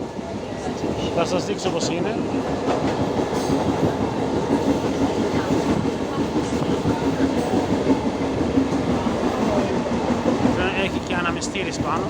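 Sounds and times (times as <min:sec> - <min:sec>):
train wheels clickety-clack on rails: 0:00.0 - 0:12.0.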